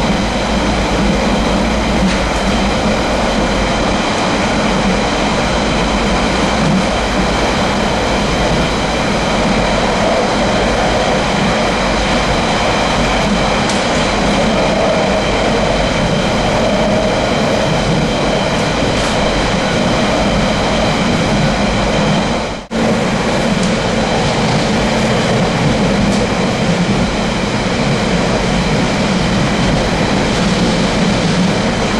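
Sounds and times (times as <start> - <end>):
train wheels rumbling on track: 0.0 - 31.9.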